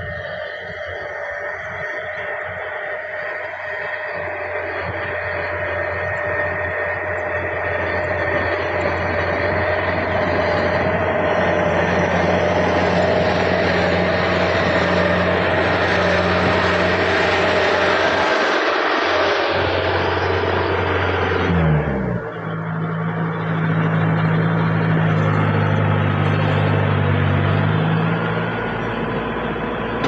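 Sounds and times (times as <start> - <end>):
combine harvester running: 0.0 - 30.0.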